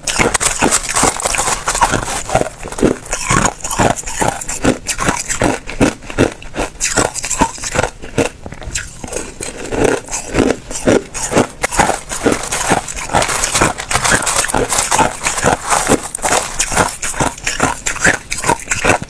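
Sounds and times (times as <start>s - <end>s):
person chewing ice cubes: 0.0s - 19.0s.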